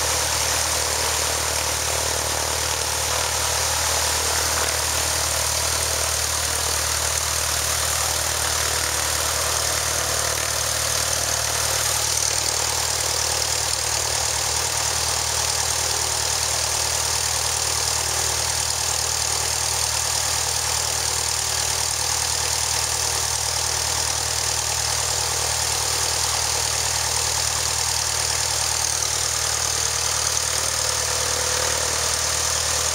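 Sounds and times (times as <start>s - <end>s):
propeller aircraft engine idling: 0.0s - 32.9s.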